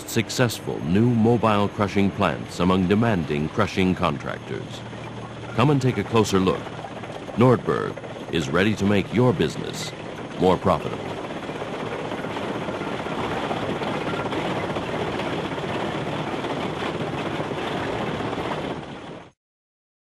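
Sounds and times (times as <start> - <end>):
excavator and wheel loader running: 0.0 - 19.1.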